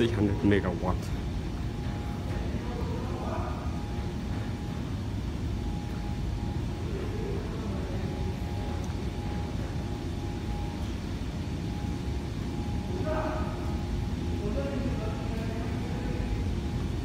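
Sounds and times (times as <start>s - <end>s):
belt conveyor rumbling: 0.0s - 17.0s
faint steady whine: 0.0s - 17.0s.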